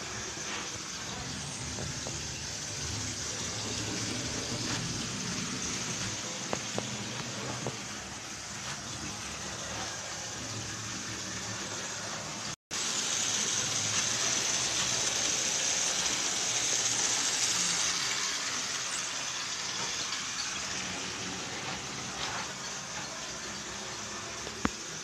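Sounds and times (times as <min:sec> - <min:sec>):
model trains whirring on rails: 0:00.0 - 0:25.0.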